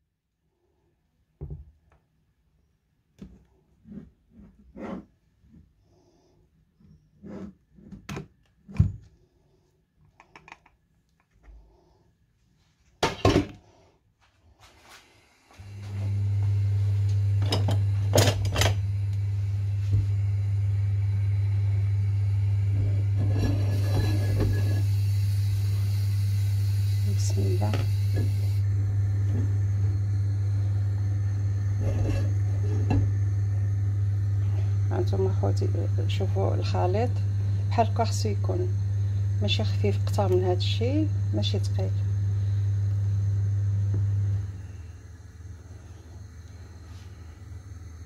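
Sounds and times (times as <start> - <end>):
low electrical hum: 0.0 - 48.0.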